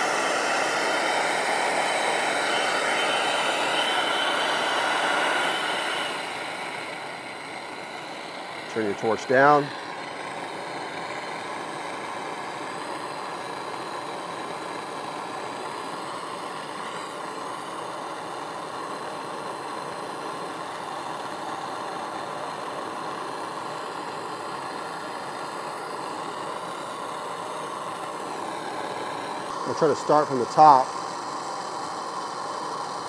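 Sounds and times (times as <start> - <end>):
hand torch hissing: 0.0 - 33.0.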